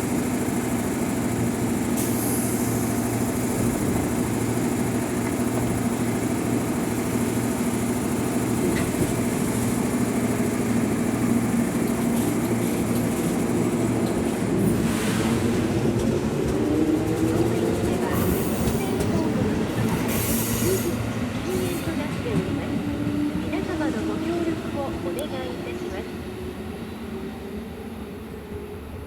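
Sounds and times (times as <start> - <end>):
electric train hum: 0.0 - 29.0.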